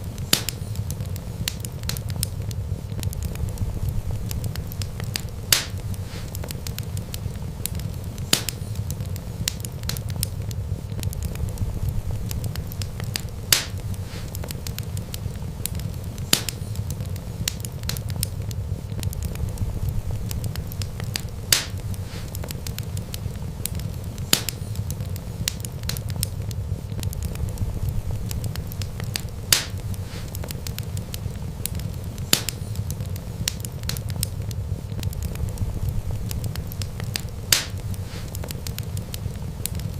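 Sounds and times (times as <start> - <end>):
fire crackling pops: 0.0 - 39.9
wood fire rumbling: 0.0 - 39.9.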